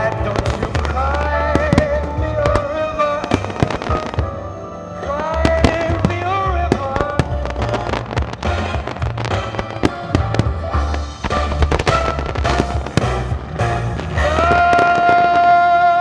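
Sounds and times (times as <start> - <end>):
firework shells bursting: 0.0 - 4.3, 5.2 - 15.8
loud music: 0.0 - 16.0.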